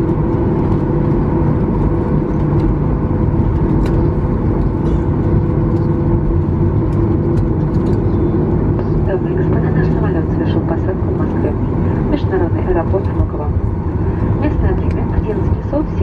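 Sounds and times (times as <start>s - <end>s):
constant cabin hum: 0.0s - 16.0s
jet engines running: 0.0s - 16.0s.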